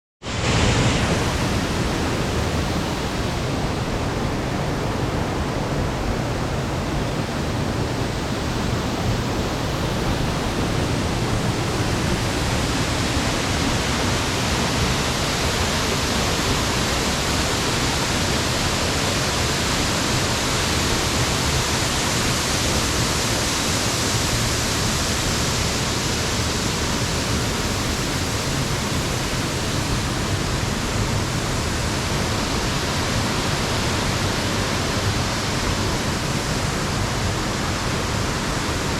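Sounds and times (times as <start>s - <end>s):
steady rushing noise: 0.2s - 38.9s.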